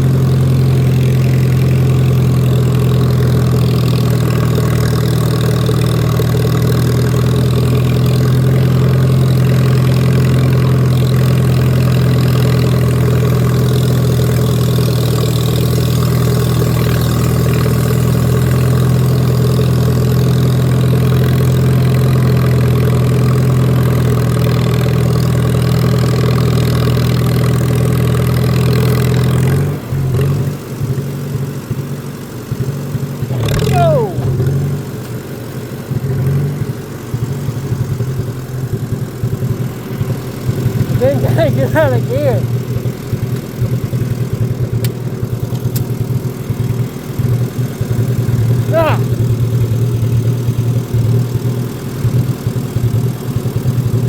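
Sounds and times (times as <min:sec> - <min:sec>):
tractor engine drone: 0:00.0 - 0:54.0.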